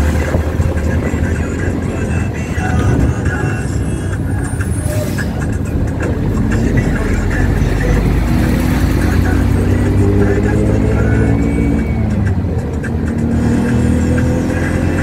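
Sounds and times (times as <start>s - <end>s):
road traffic: 0.0s - 15.0s
vehicle engine rumbling: 0.0s - 15.0s.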